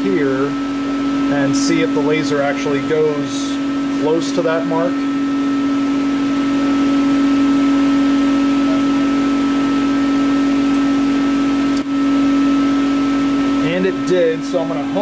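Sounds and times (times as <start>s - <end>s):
laser engraver machine hum: 0.0s - 15.0s.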